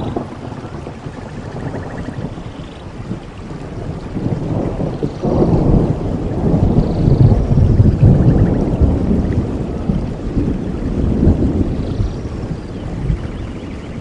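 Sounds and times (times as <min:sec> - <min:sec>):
rain falling: 0:00.0 - 0:14.0
rolling thunder rumble: 0:00.0 - 0:14.0.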